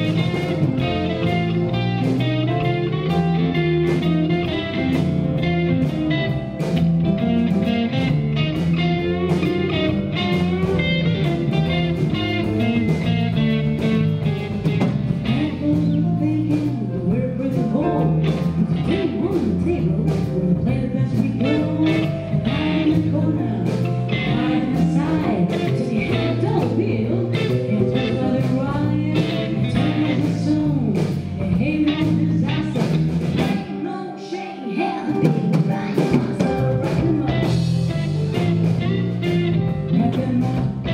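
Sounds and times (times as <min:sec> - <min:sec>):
bass: 0:00.0 - 0:34.3, 0:35.0 - 0:40.9
drums: 0:00.0 - 0:40.9
electric guitars: 0:00.0 - 0:40.9
keyboards: 0:00.0 - 0:40.9.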